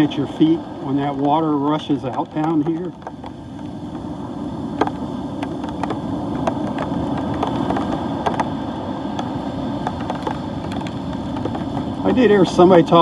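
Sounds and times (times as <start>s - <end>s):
muffled pounding surf: 0.0s - 13.0s
sharp ticks against case: 0.0s - 13.0s
wind: 0.0s - 13.0s.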